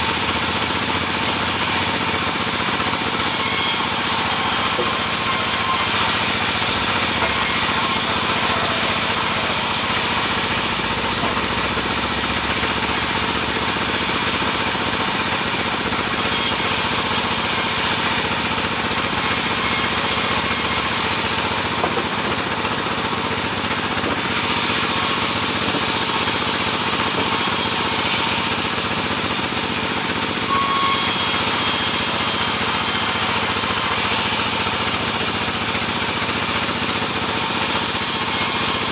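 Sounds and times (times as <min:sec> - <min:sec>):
sawmill machinery sawing wood: 0:00.0 - 0:38.9.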